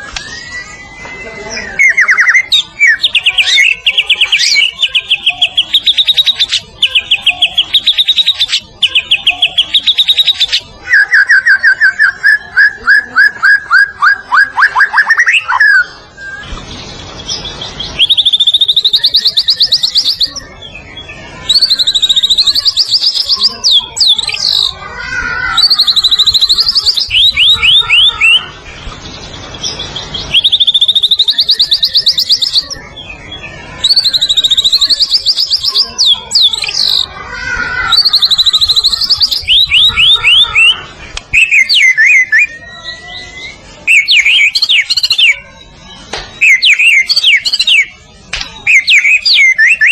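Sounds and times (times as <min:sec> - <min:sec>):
bird singing trilling phrases: 0:00.0 - 0:49.9.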